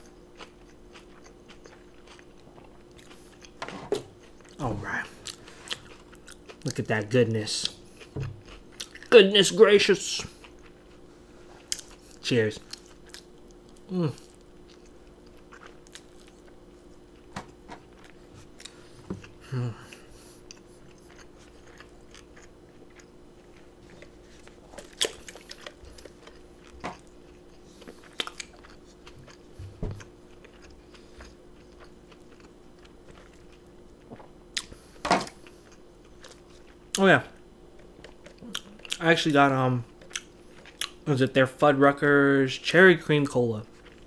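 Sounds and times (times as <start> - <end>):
chewing and biting: 0.0 - 6.9, 7.6 - 9.1, 11.6 - 17.3, 17.9 - 37.0, 37.7 - 39.2, 39.8 - 41.1, 43.6 - 44.0
steady low hum: 0.0 - 44.0.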